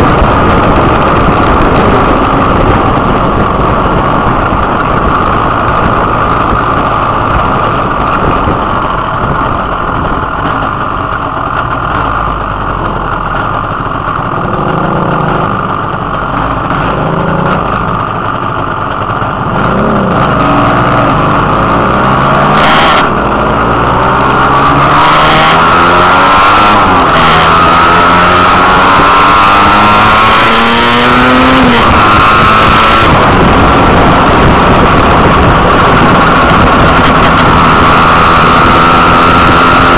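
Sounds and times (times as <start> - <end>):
engine accelerating through gears: 0.0 - 39.9
motorcycles riding at speed: 0.0 - 39.9
wind and road rush on microphone: 0.0 - 39.9.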